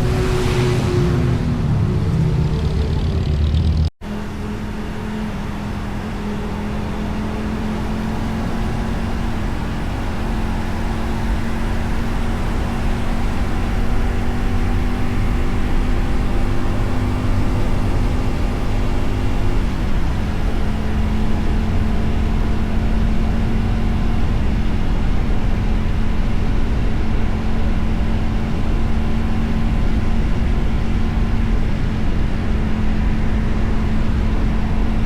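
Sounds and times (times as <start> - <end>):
motorcycle engine and exhaust: 0.0 - 35.0.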